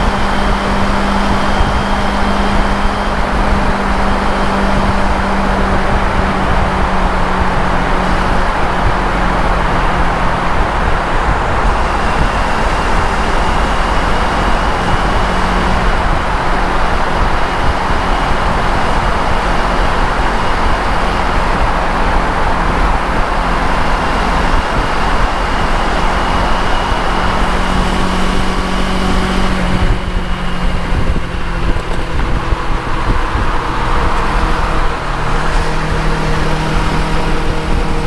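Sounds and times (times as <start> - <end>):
motorcycle engine hum: 0.0 - 38.0
wind rush over microphone: 0.0 - 38.0.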